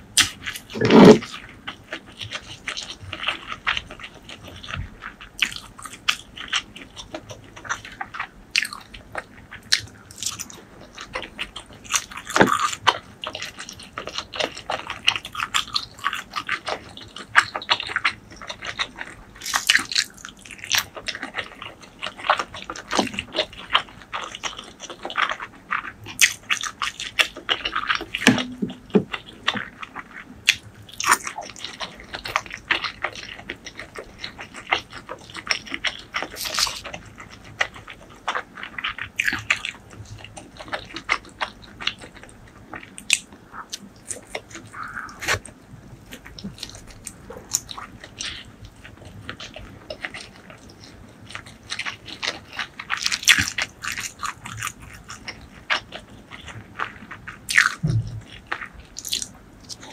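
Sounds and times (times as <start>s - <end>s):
person chewing with wet smacks: 0.2s - 59.9s.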